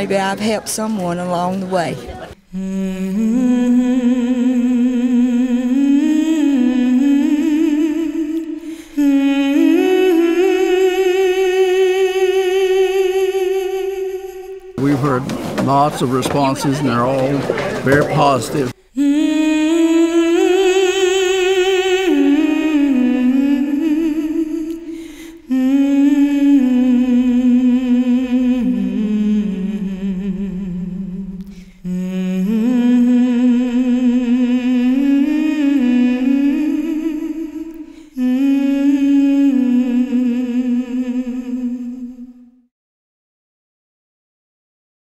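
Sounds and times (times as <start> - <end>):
person humming a slow melody: 2.4 - 14.8, 18.8 - 42.7.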